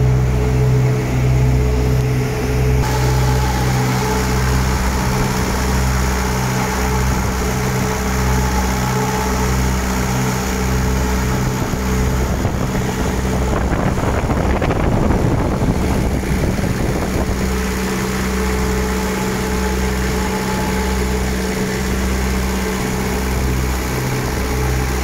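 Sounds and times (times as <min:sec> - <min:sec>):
broad rushing noise: 0:00.0 - 0:25.0
small diesel engine throbbing: 0:00.0 - 0:25.0.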